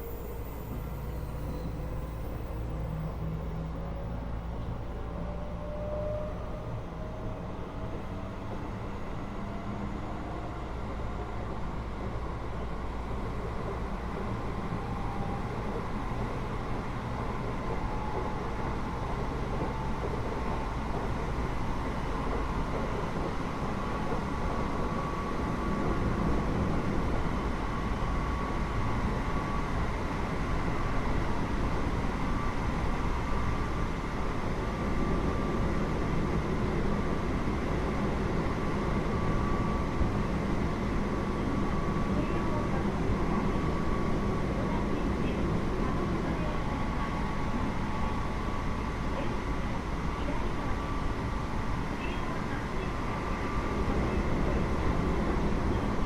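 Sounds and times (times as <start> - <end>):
train wheels rumbling on rail: 5.7 - 56.0.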